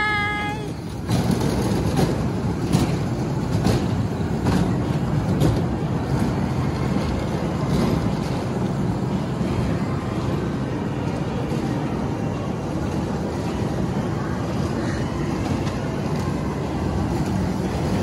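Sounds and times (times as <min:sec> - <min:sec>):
kiddie train rumbling: 0:00.0 - 0:18.0.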